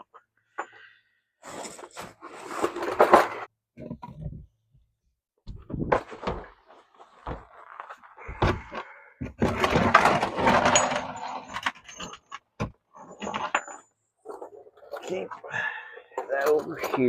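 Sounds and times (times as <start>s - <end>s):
objects clattering and scraping: 0.0s - 4.6s, 5.5s - 17.0s.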